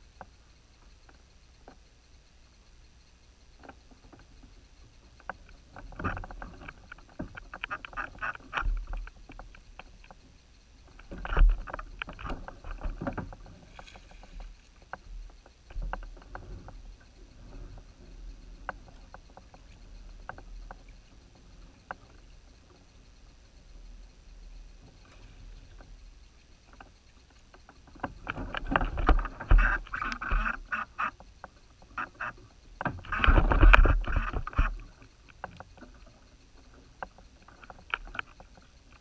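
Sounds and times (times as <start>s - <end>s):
faint water: 0.0s - 39.0s
wind: 0.0s - 39.0s.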